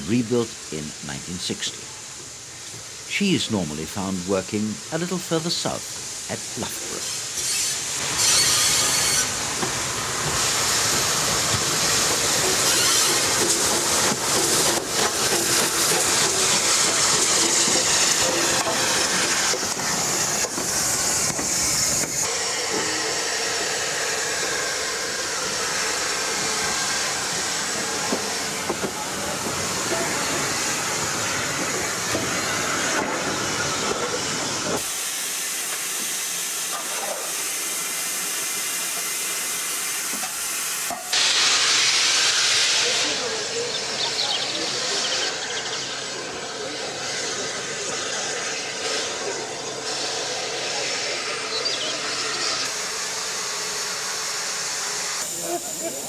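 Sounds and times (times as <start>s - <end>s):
steam hissing loudly: 0.0s - 56.0s.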